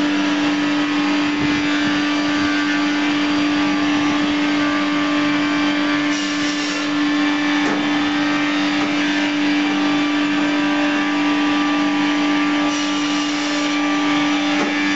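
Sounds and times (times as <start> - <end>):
milling and sawing machines droning: 0.0 - 14.9.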